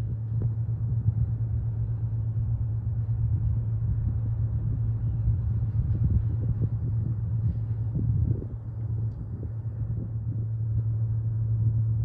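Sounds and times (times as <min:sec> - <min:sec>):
low mechanical drone: 0:00.0 - 0:12.0
rough uneven rumble: 0:00.0 - 0:12.0.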